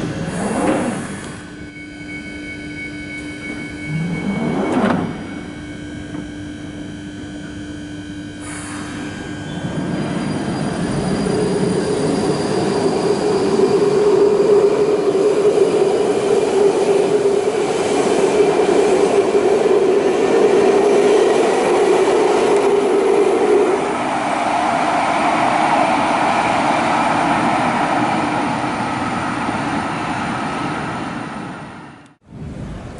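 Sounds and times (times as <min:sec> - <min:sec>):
train pulling out: 0:00.0 - 0:06.3, 0:08.4 - 0:32.9.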